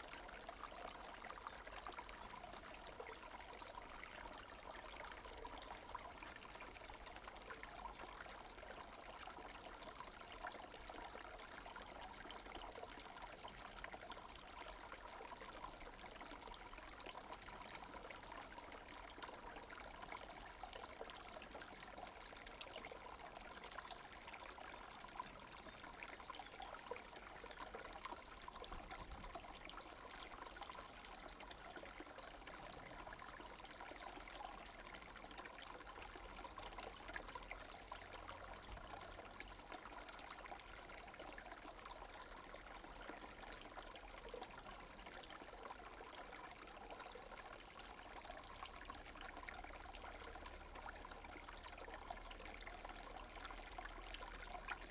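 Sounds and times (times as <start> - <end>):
stream trickling and splashing: 0.0 - 54.9.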